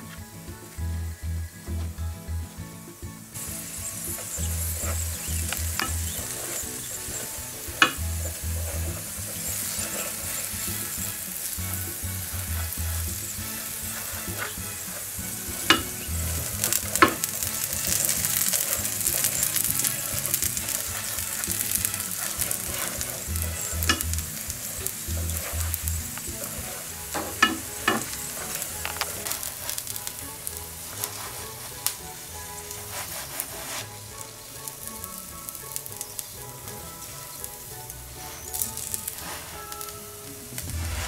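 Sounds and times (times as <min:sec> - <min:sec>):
butter sizzling in a frying pan: 0:03.3 - 0:41.0.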